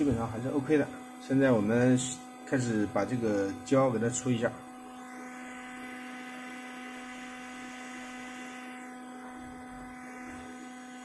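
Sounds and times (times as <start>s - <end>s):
hot-air station humming and hissing: 0.0s - 11.0s.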